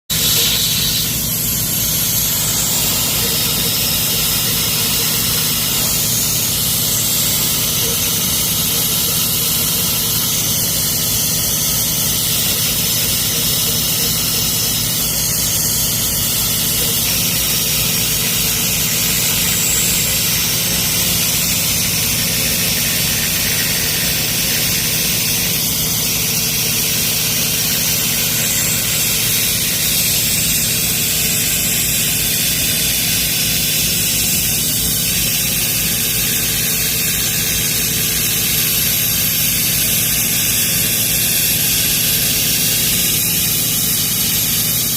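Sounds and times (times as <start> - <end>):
end mill cutting acrylic hiss: 0.1 - 44.9
engraver spindle whining: 0.1 - 44.9.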